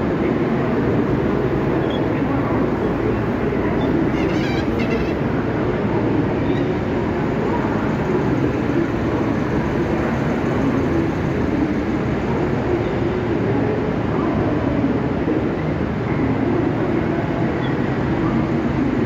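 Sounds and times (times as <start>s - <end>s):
low rumble of trains: 0.0s - 19.0s
station hubbub: 0.0s - 19.0s.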